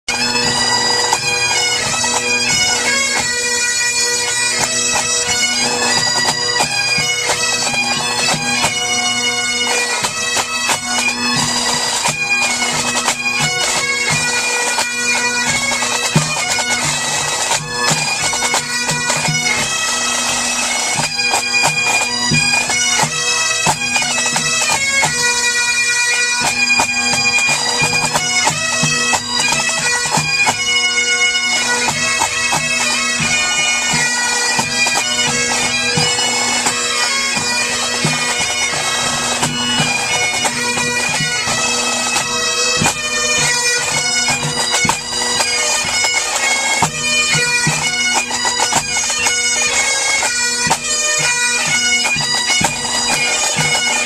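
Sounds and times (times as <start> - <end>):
bagpipes playing a tune: 0.0 - 54.0.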